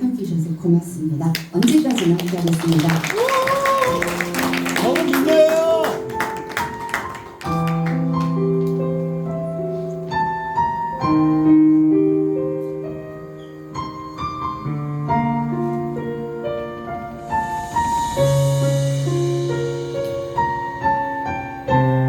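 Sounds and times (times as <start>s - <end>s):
piano playing slow chords: 3.4s - 22.0s.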